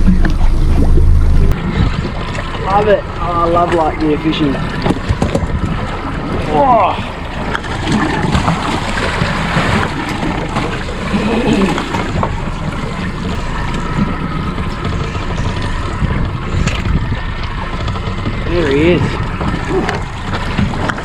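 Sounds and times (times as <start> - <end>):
water lapping against boat hull: 0.0 - 21.0
wind noise: 0.0 - 21.0.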